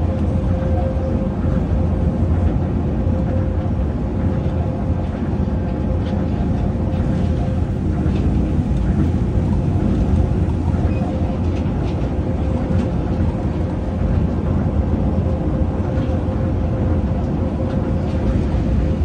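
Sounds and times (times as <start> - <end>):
monorail tyres rumbling on guideway: 0.0 - 19.0.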